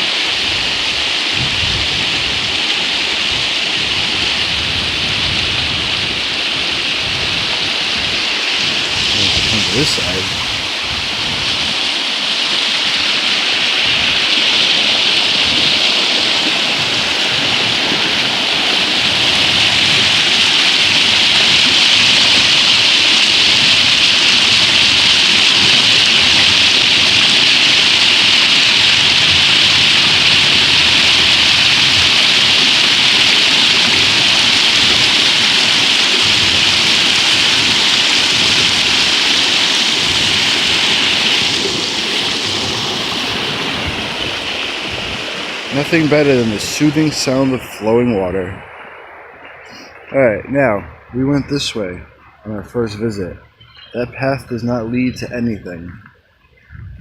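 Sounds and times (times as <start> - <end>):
stream water rushing: 0.0 - 55.6.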